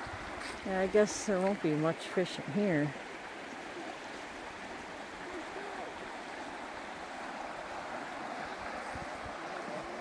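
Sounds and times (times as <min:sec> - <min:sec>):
river rushing over riffles: 0:00.0 - 0:10.0.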